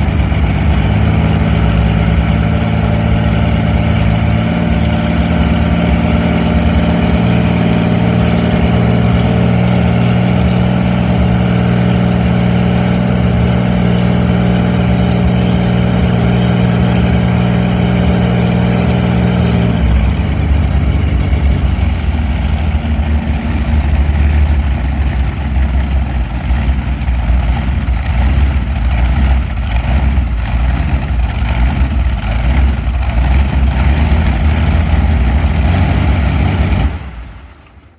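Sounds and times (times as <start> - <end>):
aero engine running: 0.0 - 37.9.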